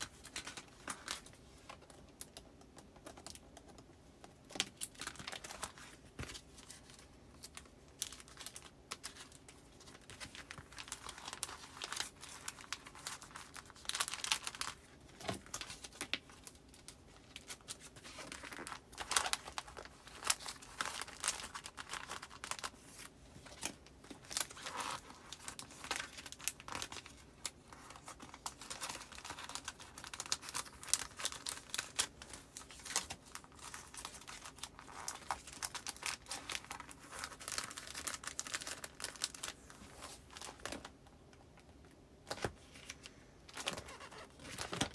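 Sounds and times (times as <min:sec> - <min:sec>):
paper and plastic rustling: 0:04.5 - 0:41.0, 0:42.3 - 0:44.9.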